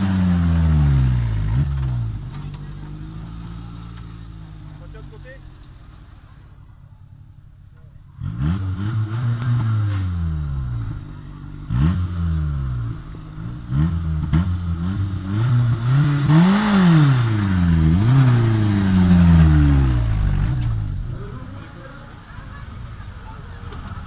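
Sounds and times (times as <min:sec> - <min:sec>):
off-road vehicle engine revving: 0:00.0 - 0:06.2, 0:08.0 - 0:24.0.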